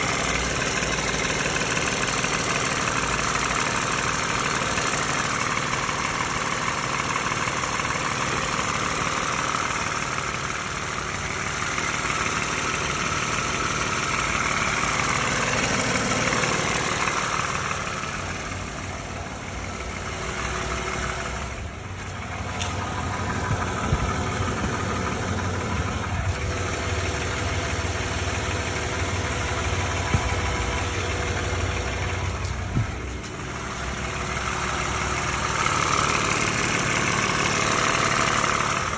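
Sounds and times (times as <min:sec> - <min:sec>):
car engine idling with rattle: 0:00.0 - 0:38.9.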